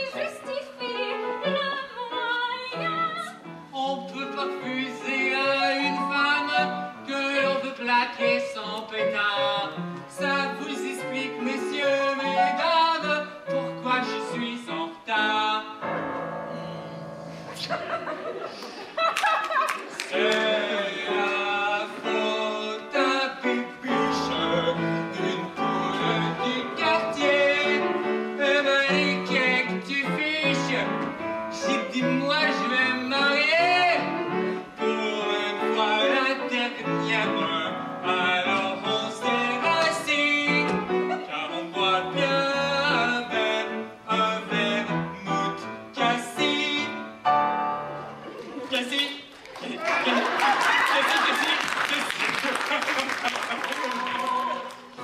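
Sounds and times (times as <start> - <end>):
piano accompaniment: 0.0 - 19.0, 19.9 - 49.0.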